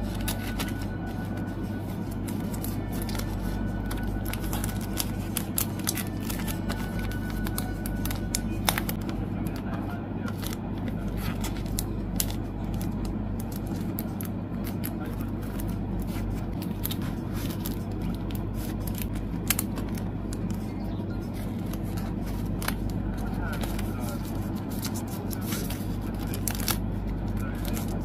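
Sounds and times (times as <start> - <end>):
low background hum: 0.0 - 28.0
plastic sleeves crinkling and clicking: 0.0 - 28.0.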